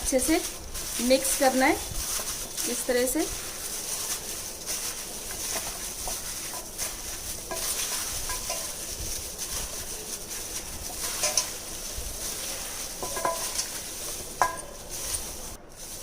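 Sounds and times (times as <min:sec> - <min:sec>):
hands squelching wet chicken: 0:00.4 - 0:15.5.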